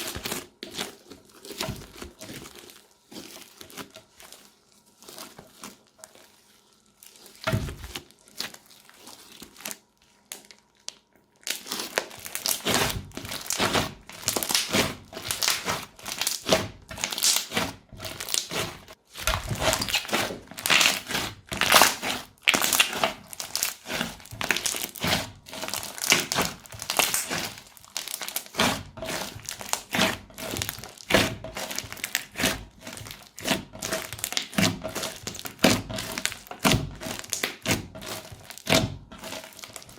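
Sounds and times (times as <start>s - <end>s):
crunchy slime crackling: 0.0s - 39.9s.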